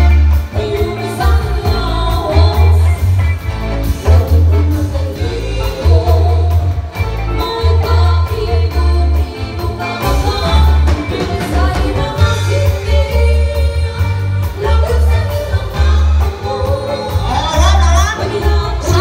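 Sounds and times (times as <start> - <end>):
bass guitar: 0.0 - 19.0
drums: 0.0 - 19.0
electric guitar: 0.0 - 19.0
keyboard: 0.0 - 19.0
women singing: 0.3 - 3.2, 4.0 - 19.0.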